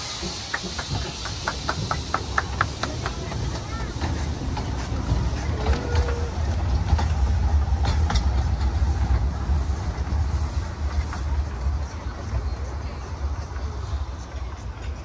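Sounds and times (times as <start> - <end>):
steam train running on rails: 0.0 - 15.0.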